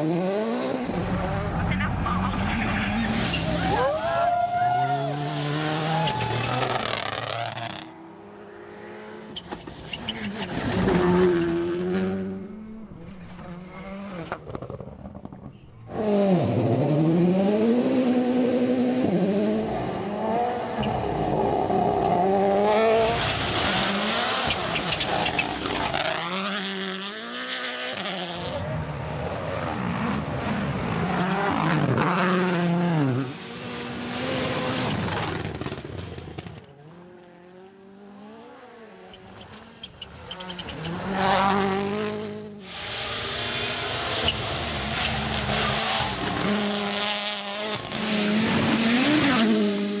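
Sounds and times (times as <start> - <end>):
rally cars revving past: 0.0 - 15.2, 15.9 - 36.2, 36.8 - 50.0.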